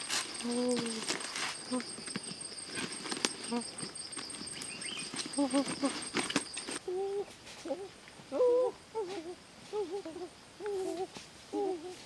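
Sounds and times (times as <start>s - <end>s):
bird hooting call: 0.0s - 12.0s.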